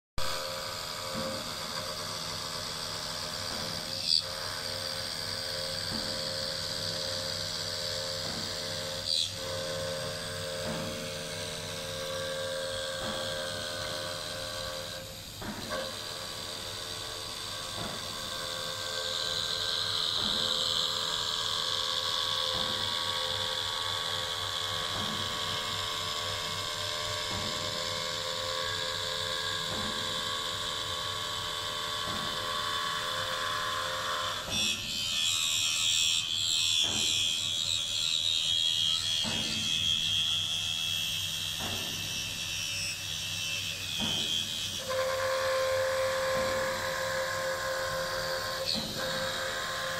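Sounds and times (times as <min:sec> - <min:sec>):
router spindle whine with cutting hiss: 0:00.3 - 0:49.9.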